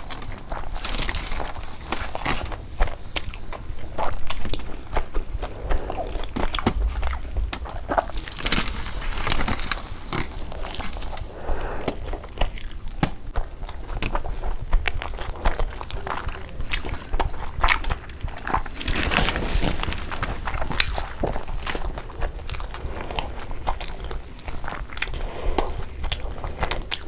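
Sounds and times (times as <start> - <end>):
chewing and biting food: 0.0 - 27.0.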